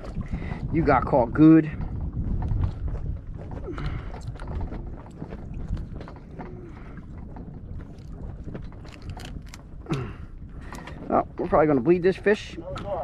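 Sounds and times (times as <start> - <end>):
low rumble: 0.0 - 12.0
knocks and clicks on boat deck: 1.7 - 13.0.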